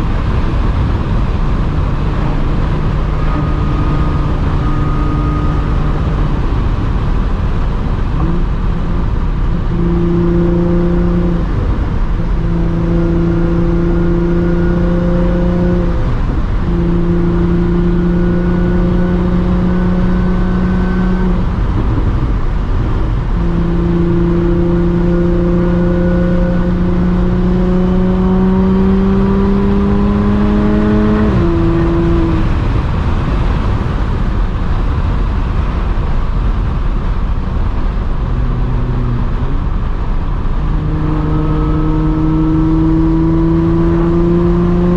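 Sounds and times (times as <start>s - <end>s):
car engine drone: 0.0s - 44.9s
road and wind noise: 0.0s - 44.9s.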